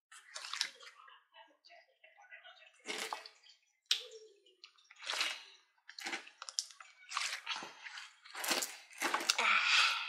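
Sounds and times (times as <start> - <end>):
slime squelching: 0.1 - 1.3, 2.7 - 10.0.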